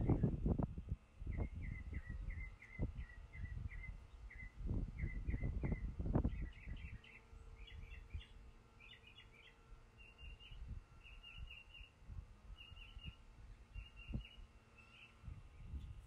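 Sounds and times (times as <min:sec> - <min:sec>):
songbird singing faintly: 0:00.0 - 0:16.0.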